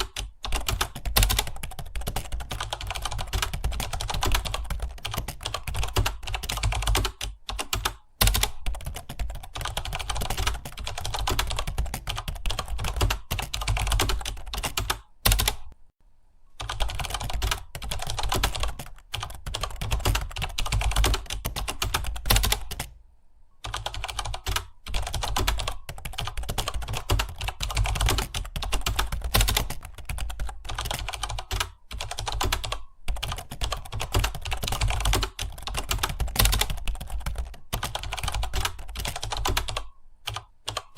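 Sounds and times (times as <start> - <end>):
typing on computer keyboard: 0.0 - 15.8, 16.6 - 23.0, 23.6 - 40.9.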